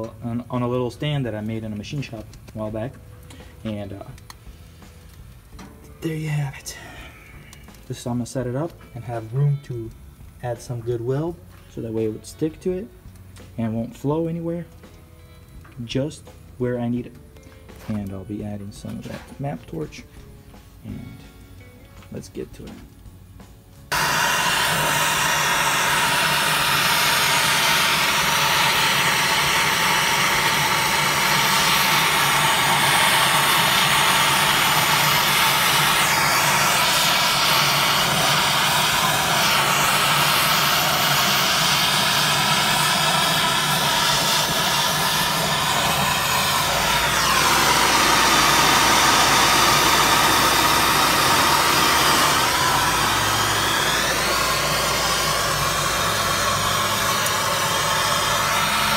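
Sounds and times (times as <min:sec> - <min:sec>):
hand torch flame hissing: 0:00.0 - 0:12.8, 0:23.9 - 0:58.9.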